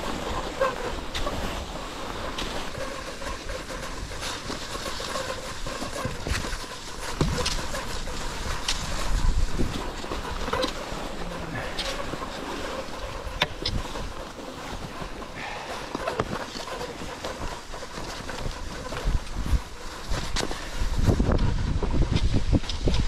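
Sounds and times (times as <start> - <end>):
ski poles clicking: 0.0 - 23.0
skis sliding over snow: 0.0 - 23.0
wind rumble on microphone: 0.0 - 23.0.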